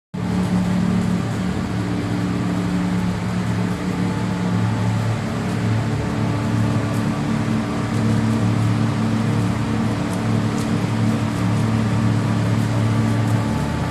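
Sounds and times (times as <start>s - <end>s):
machinery humming: 0.2s - 13.9s.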